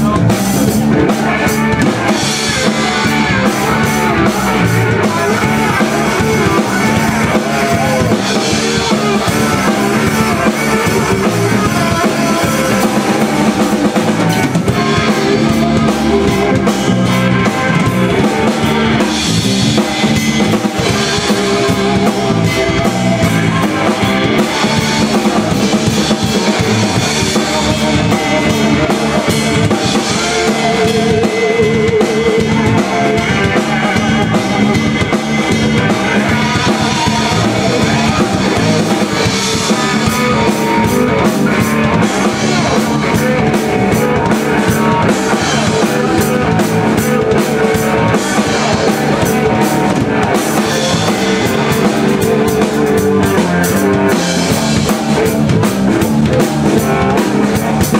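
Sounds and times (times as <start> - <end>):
blues-rock band playing: 0.0 - 57.9.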